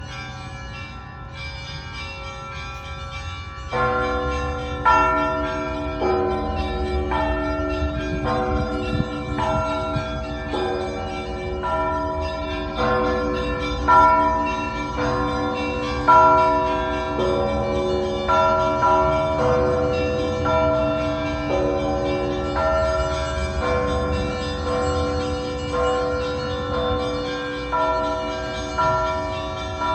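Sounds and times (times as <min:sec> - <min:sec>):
church bells ringing: 0:00.0 - 0:29.9.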